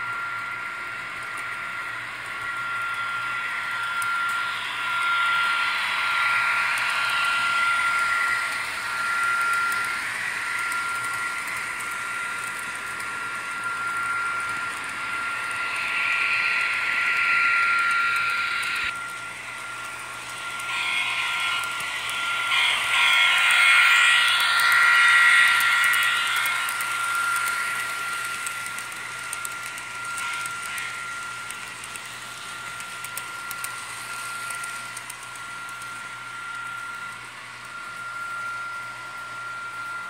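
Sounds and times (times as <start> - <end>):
model train wheels clattering on rails: 0.0 - 37.1
high-pitched whine: 0.0 - 40.0.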